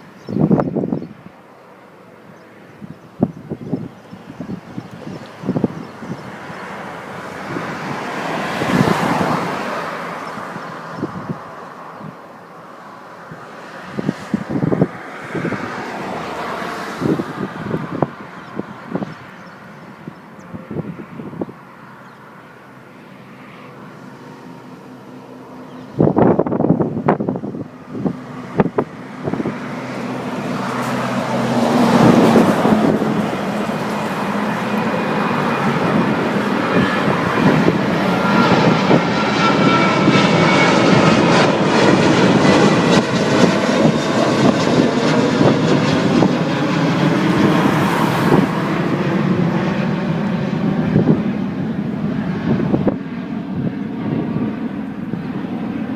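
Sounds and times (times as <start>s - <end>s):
jet engines roaring: 0.0s - 55.9s.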